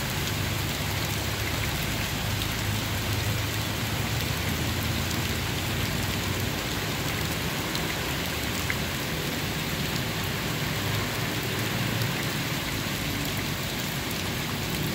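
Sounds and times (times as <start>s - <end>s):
rain pouring on wet pavement: 0.0s - 14.9s.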